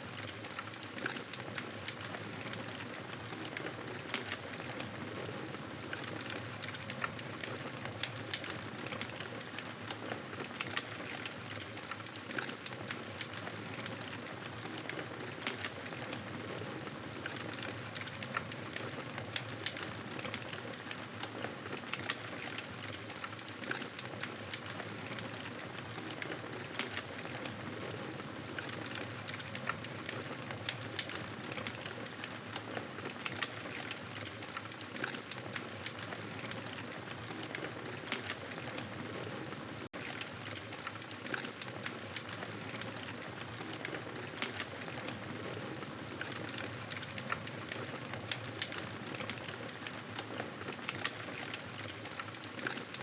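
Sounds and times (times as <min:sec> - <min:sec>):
campfire crackling: 0:00.2 - 0:53.0.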